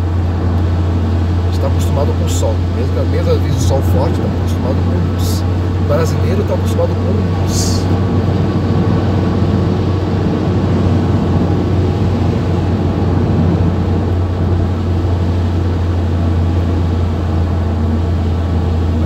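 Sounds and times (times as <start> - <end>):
car engine and road drone: 0.0 - 19.0
tyres on wet road: 0.0 - 19.0.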